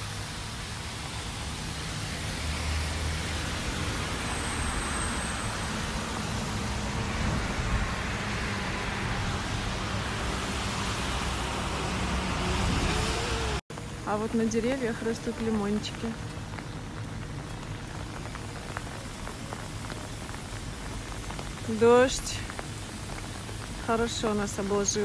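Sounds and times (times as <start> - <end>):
rain: 0.0 - 25.0
wind rumbling on microphone: 0.0 - 25.0.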